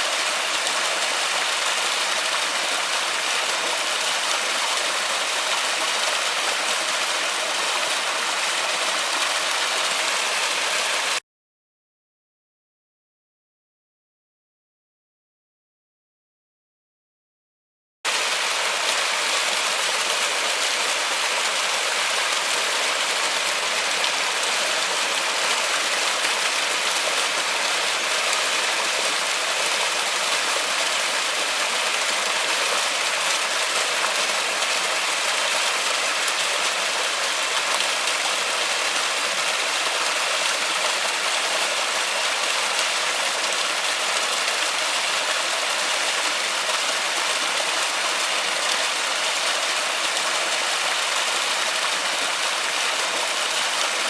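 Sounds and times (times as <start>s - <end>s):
rain falling in forest: 0.0s - 11.2s, 18.1s - 54.0s.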